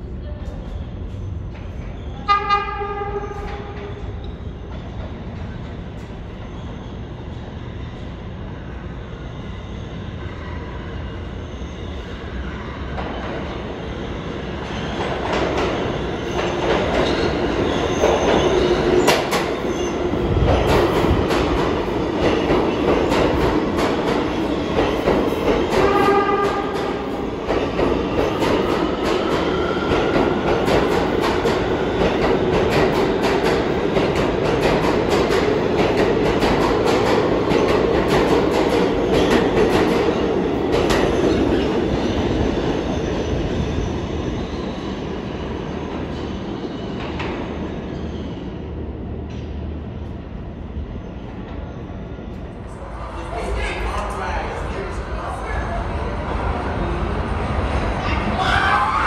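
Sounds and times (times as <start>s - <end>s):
subway train rumble: 0.0s - 59.0s.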